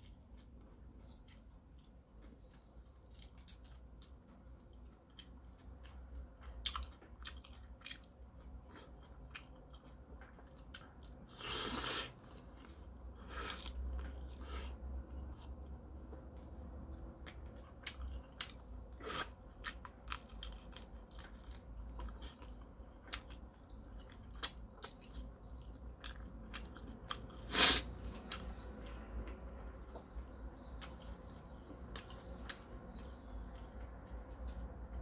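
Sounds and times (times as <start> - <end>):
chewing and biting prawn: 0.0 - 15.7, 17.2 - 35.0.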